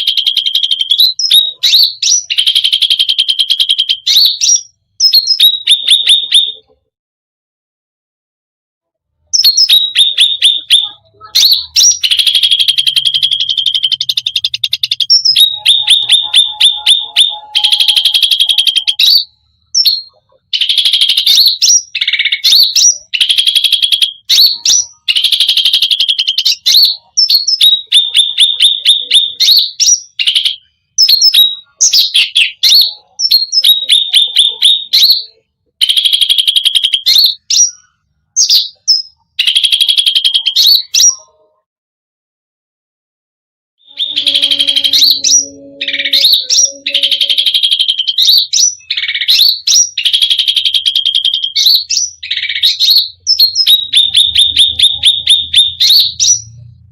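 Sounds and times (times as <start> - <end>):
songbird singing: 0.0 - 6.8, 9.3 - 41.6, 43.8 - 56.8.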